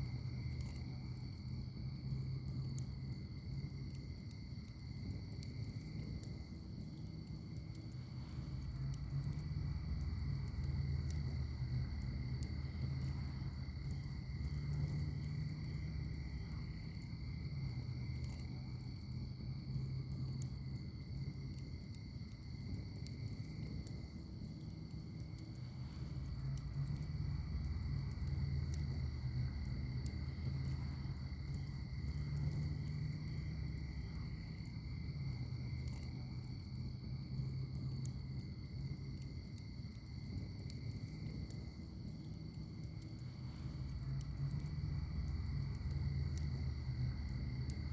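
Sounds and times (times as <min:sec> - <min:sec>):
fire crackles and pops: 0:00.0 - 0:47.9
low rumble of flames: 0:00.0 - 0:47.9.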